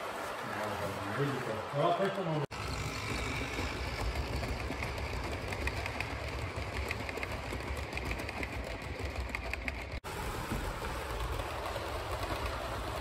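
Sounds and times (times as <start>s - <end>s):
model train rumbling: 2.5s - 13.0s
wheels clicking over rail joints: 2.5s - 13.0s.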